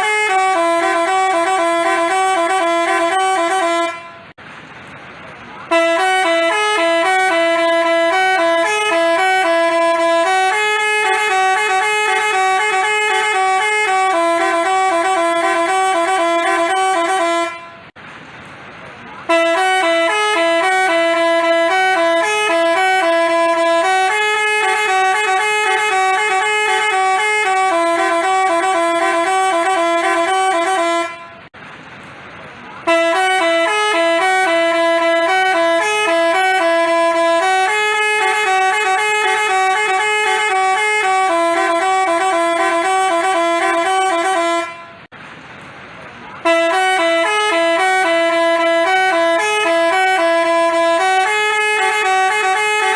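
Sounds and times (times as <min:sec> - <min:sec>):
multi-tone bus horn tune: 0:00.0 - 0:04.4, 0:05.5 - 0:18.0, 0:19.2 - 0:31.6, 0:32.8 - 0:45.1, 0:46.3 - 0:52.9.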